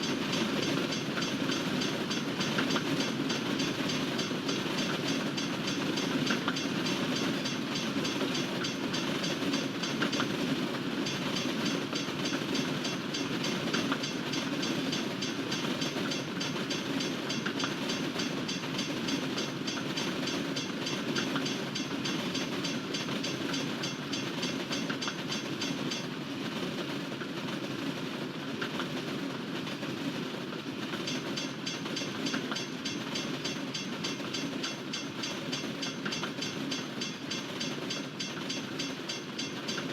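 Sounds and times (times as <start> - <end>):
wheels clicking over rail joints: 0.0 - 26.2, 30.6 - 39.9
steel wheels rumbling on rail: 0.0 - 39.9.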